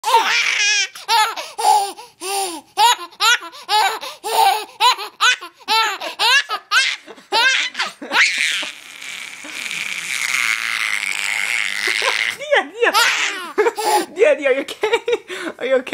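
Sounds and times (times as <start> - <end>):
baby laughing: 0.0 - 14.2.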